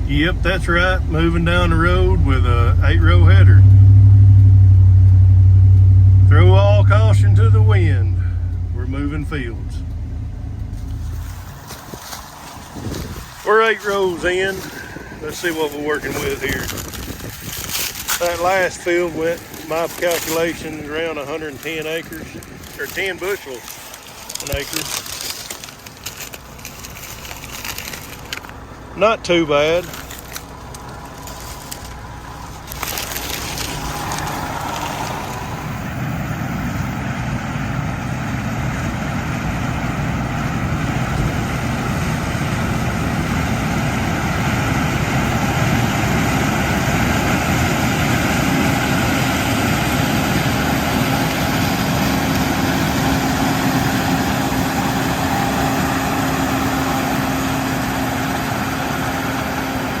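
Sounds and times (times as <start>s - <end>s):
combine harvester running: 0.0s - 60.0s
steady hum: 0.0s - 60.0s.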